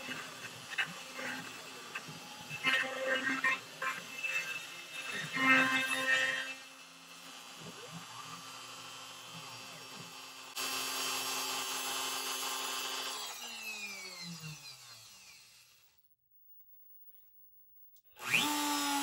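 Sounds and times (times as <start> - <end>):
router spindle whine: 0.0 - 16.0, 18.2 - 19.0.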